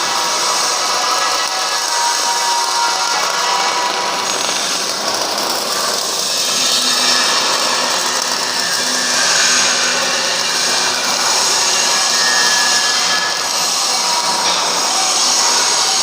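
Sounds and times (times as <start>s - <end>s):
welding arc crackling and hissing: 0.0s - 16.0s.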